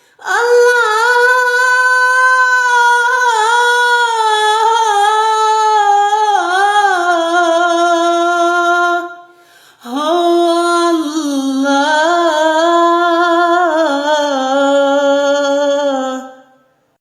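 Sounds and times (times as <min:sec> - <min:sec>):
man singing religious chant: 0:00.2 - 0:16.5.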